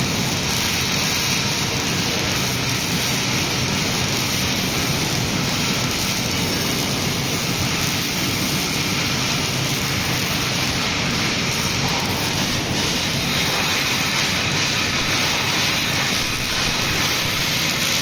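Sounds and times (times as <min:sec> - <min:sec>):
welding arc crackling and hissing: 0:00.0 - 0:18.0.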